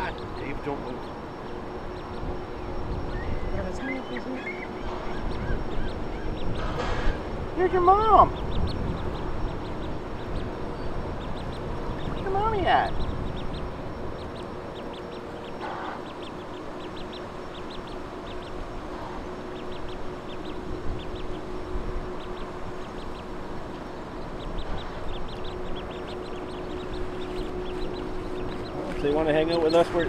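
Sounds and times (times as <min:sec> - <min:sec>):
ducklings peeping: 0:00.0 - 0:30.0.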